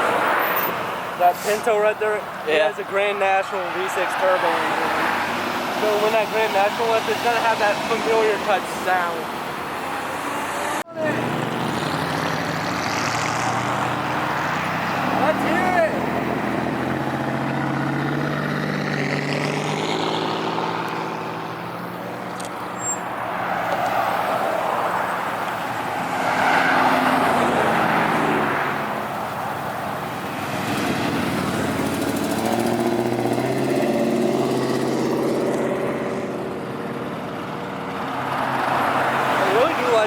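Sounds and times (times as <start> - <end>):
car engines driving past: 0.0 - 40.0.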